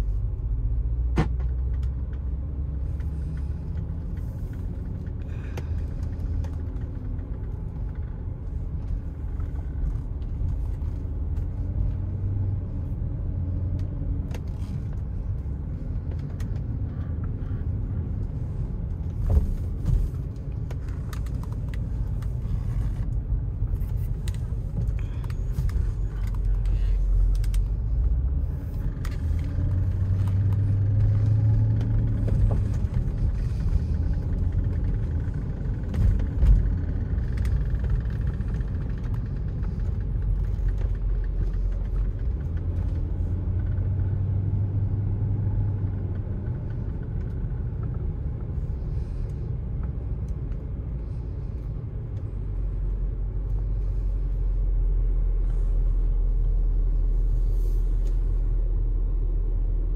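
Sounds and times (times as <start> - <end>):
car engine accelerating: 0.0 - 59.9
road rumble: 0.0 - 59.9.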